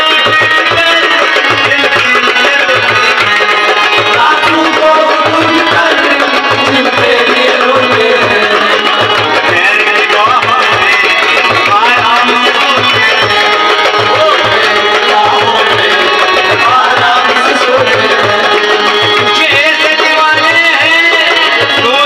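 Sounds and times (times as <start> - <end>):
harmonium melody: 0.0 - 22.0
man singing: 0.0 - 22.0.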